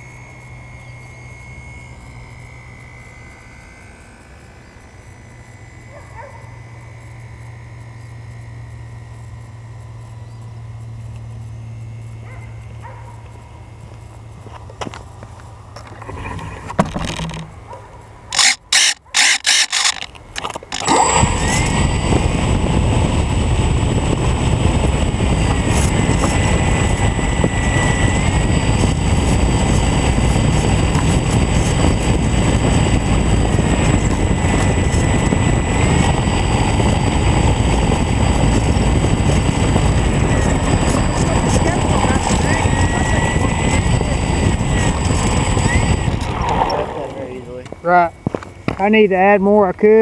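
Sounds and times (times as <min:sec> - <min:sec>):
model plane motor and propeller: 0:00.0 - 0:50.0.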